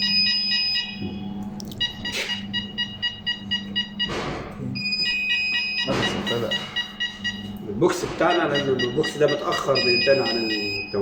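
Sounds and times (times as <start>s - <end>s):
alarm buzzer beeping rapidly: 0.0s - 11.0s.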